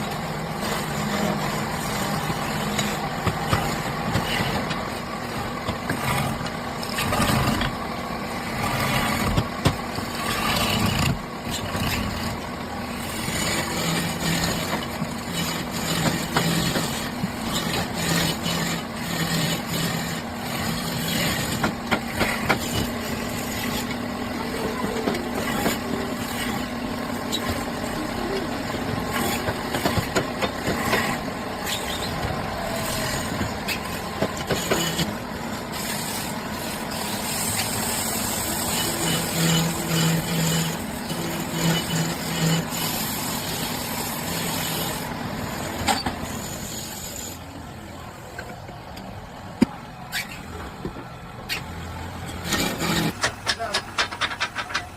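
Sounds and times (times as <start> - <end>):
tool cutting spinning wood: 0.0 - 47.4, 51.6 - 54.9
lathe motor hum: 0.0 - 47.9.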